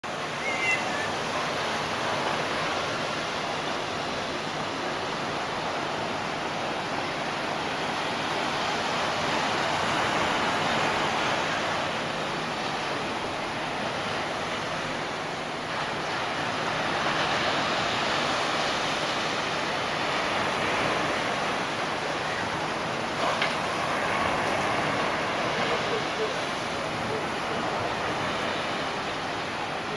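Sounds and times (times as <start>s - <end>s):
ocean surf breaking: 0.0s - 29.9s.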